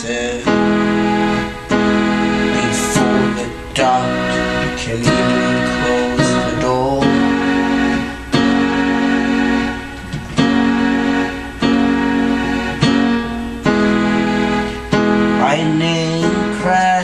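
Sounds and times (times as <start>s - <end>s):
keyboard chords ringing: 0.0s - 17.0s.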